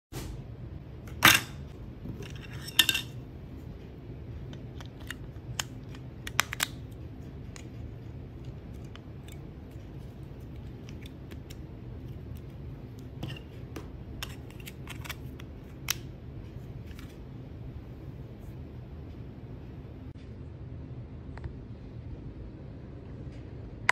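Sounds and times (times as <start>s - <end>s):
low hum: 0.2s - 23.9s.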